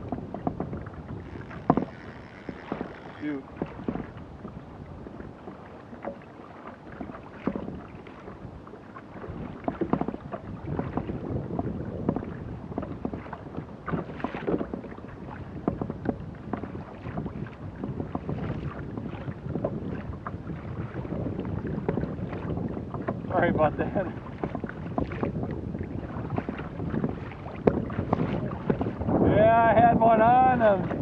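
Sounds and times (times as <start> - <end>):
water splashing against kayak hull: 0.0 - 31.0
wind buffeting microphone: 0.0 - 31.0.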